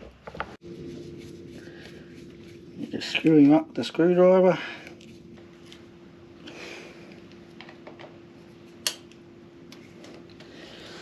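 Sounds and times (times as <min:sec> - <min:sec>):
steady low hum: 0:00.4 - 0:11.0.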